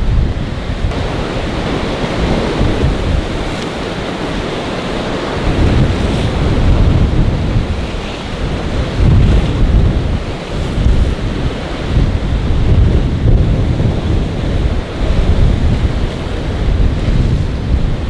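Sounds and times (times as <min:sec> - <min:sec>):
waves breaking: 0:00.0 - 0:18.0
wind buffeting microphone: 0:00.0 - 0:18.0.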